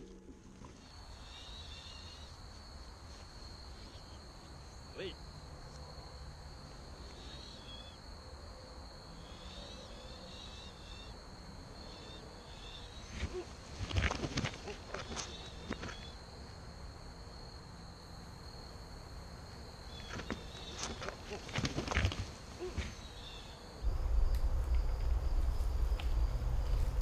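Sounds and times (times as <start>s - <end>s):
insect drone: 0.0s - 27.0s.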